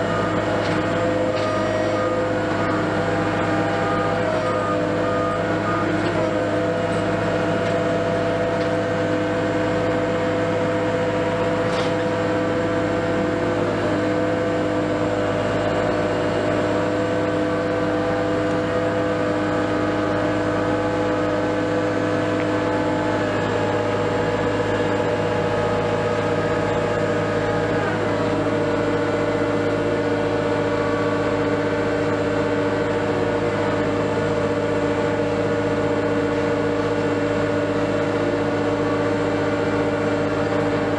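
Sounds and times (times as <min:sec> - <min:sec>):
crane engine and hydraulics droning: 0:00.0 - 0:40.9.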